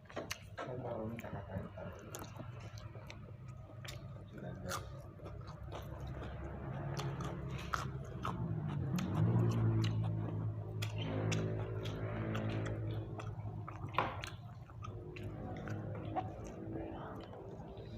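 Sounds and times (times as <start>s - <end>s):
low steady hum: 0.0s - 17.9s
person chewing food: 0.0s - 17.9s.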